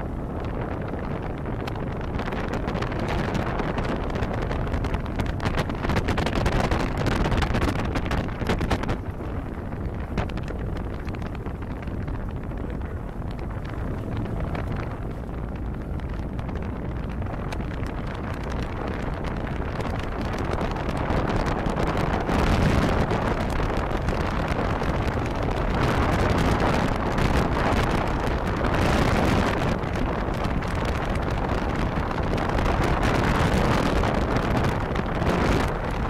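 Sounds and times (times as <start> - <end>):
hull rushing across water: 0.0 - 36.0
motorboat engine: 0.0 - 36.0
wind buffeting microphone: 0.0 - 36.0.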